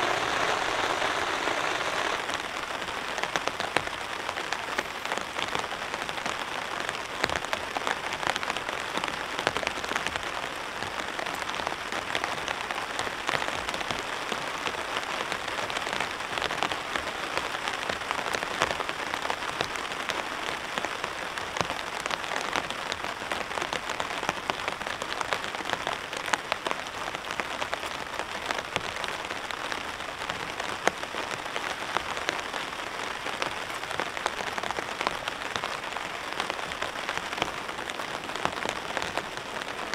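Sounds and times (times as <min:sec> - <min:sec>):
rain falling on a tarp: 0:00.0 - 0:39.9.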